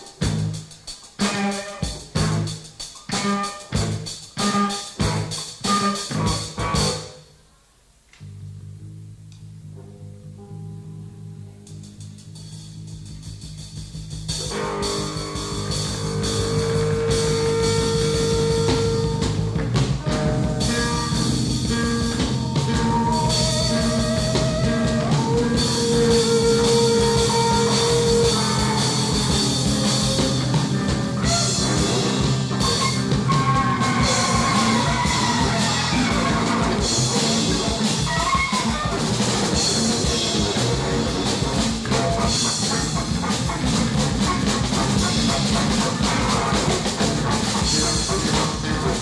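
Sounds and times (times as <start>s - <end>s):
noise rock band playing: 0.0s - 7.2s, 9.7s - 49.0s.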